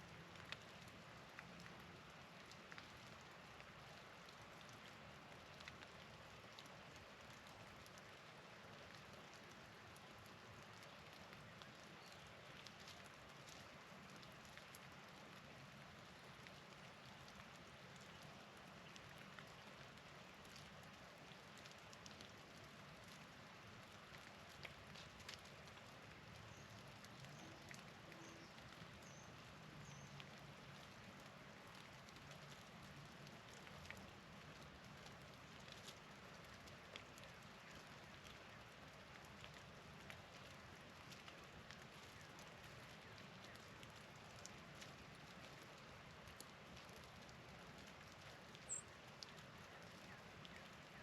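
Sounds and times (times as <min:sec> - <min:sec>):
rain hissing and pattering: 0:00.0 - 0:51.0.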